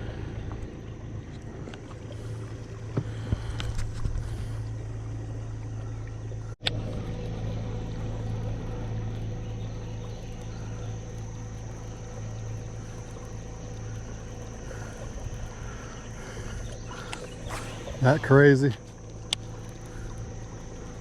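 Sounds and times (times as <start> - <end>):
electric boat motor humming: 0.0 - 21.0.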